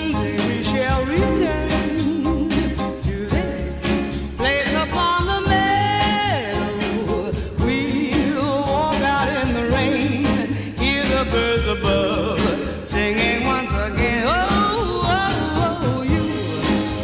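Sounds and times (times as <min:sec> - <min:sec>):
person singing: 0:00.0 - 0:17.0
steady drum beat: 0:00.0 - 0:17.0.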